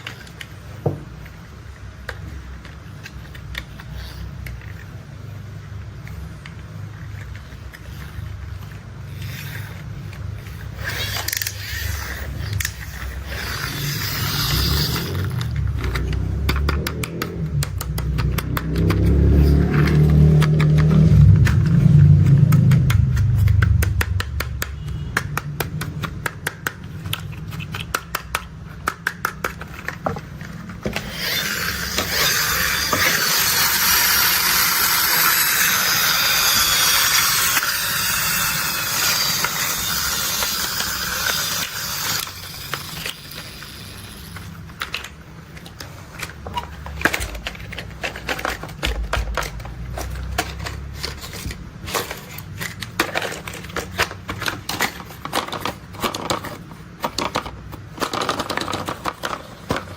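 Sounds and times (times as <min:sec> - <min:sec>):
plastic toy parts clicking: 0:01.2 - 0:05.1, 0:05.7 - 0:59.9.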